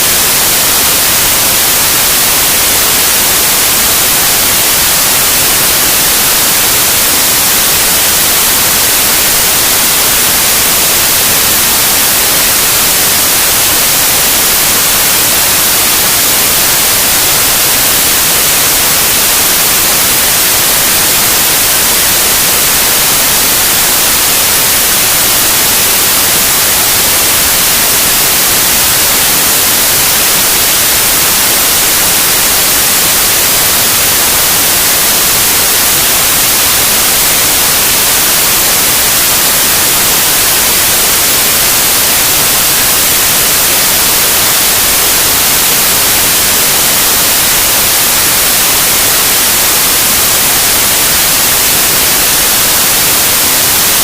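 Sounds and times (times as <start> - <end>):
loud white noise: 0.0 - 54.0.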